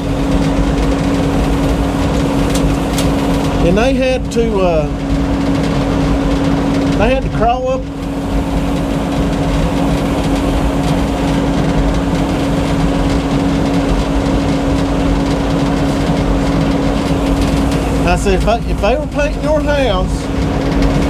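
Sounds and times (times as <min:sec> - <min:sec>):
sawmill mechanical drone: 0:00.0 - 0:21.0.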